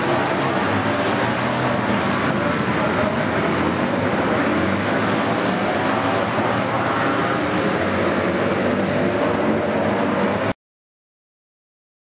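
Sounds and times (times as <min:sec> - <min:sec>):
racing motorcycle engines: 0:00.0 - 0:10.6.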